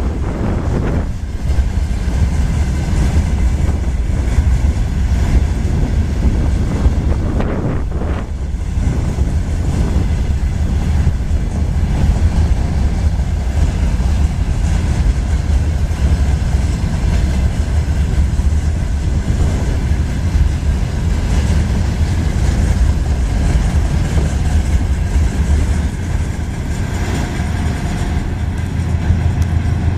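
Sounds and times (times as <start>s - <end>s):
train wheels rumbling on rails: 0.0s - 29.9s
wheels clickety-clack: 0.0s - 29.9s.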